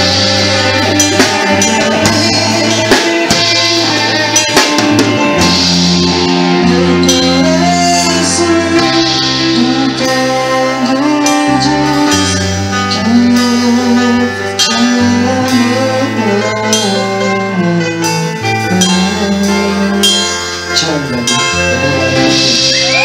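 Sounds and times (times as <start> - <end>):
song with held bass notes: 0.0 - 23.0.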